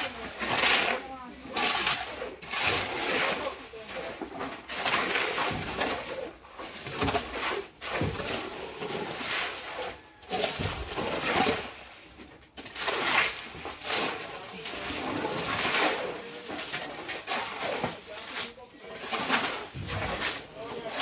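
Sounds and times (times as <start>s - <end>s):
shovels scraping wet concrete: 0.0s - 21.0s.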